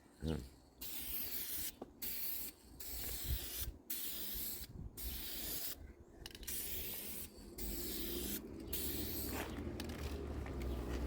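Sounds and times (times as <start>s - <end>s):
spray paint hissing: 0.8s - 10.0s.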